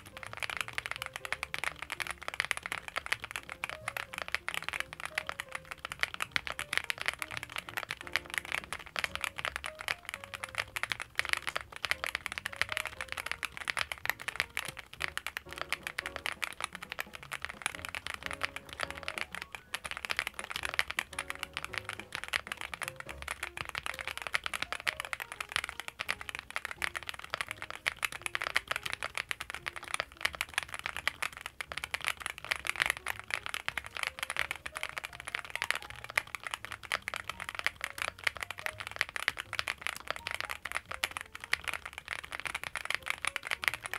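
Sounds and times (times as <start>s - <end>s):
fast typing on mechanical keyboard: 0.0s - 43.9s.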